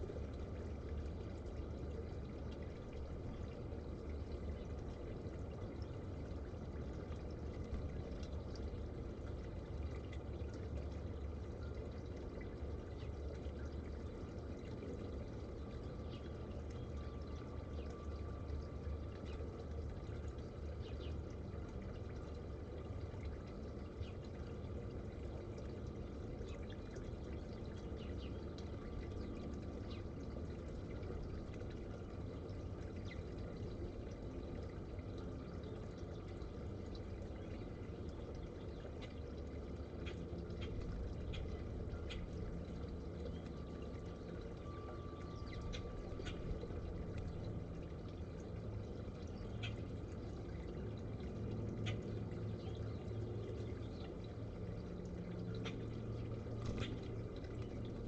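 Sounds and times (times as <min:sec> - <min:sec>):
garden fountain trickling: 0:00.0 - 0:58.0.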